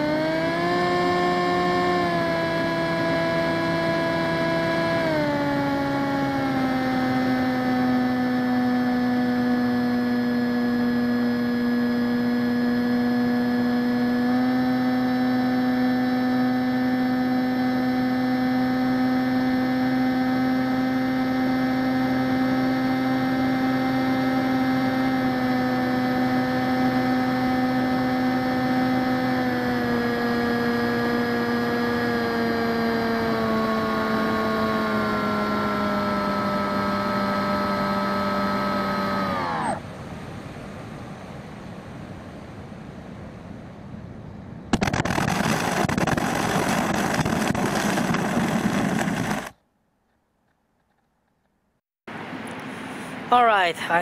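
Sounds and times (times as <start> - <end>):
electric motor and propeller whine: 0.0 - 43.8, 44.7 - 49.6.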